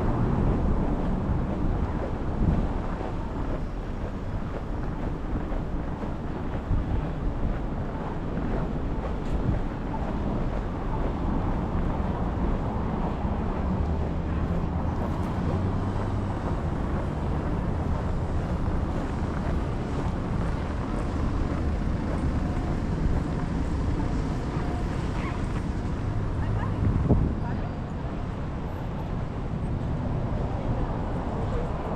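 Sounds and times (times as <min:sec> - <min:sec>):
street traffic rumble: 0:00.0 - 0:31.9
wind buffeting microphone: 0:00.0 - 0:31.9.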